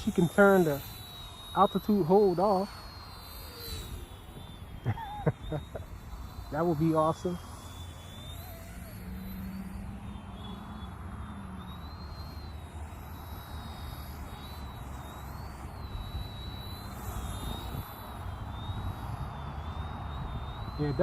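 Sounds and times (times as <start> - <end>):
toy helicopter motors whining: 0.0 - 21.0.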